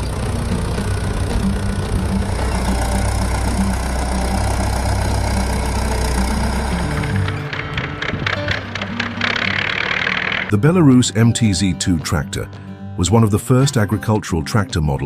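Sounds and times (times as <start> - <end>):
tractor diesel engine rumbling: 0.0 - 14.4.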